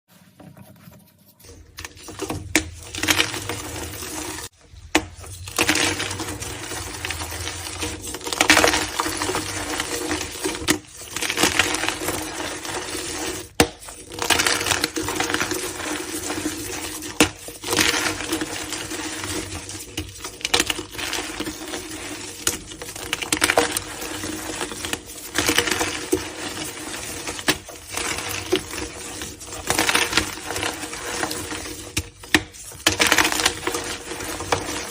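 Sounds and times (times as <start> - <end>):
chalk crushed crunching: 0.1 - 34.9.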